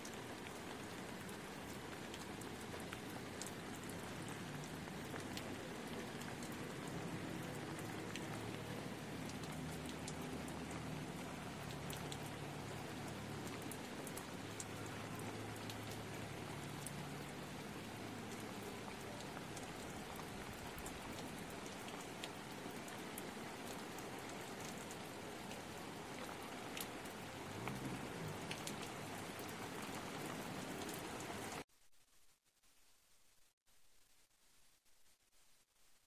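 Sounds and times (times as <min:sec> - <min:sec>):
heavy rain pouring: 0:00.0 - 0:31.6.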